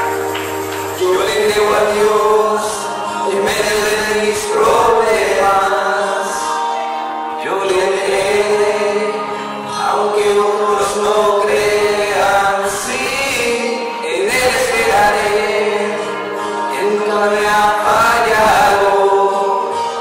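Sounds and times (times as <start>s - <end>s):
men singing into microphones: 0.9s - 20.0s.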